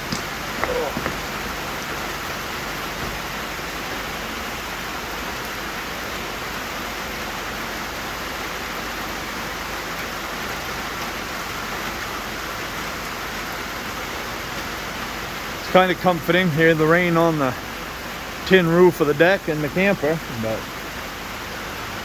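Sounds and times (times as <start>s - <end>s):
heavy rain on a tin roof: 0.0s - 22.0s.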